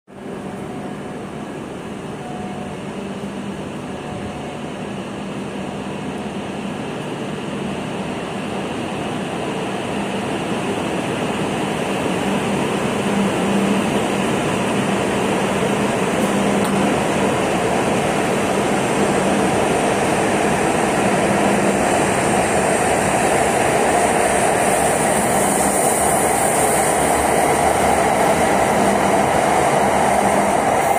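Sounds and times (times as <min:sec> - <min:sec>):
high-speed train running noise: 0:00.1 - 0:30.9.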